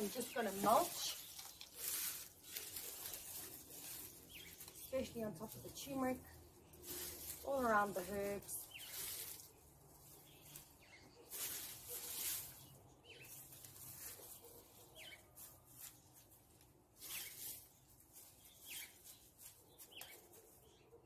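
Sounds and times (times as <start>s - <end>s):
dry leaves rustling and crackling: 0.0s - 20.8s.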